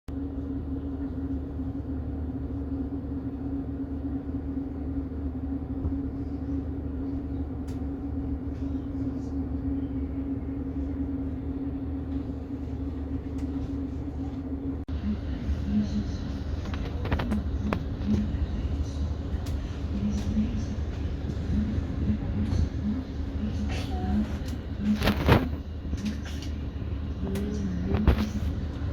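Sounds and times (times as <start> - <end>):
constant hum: 0.1 - 28.9
train rumble inside carriage: 0.1 - 28.9.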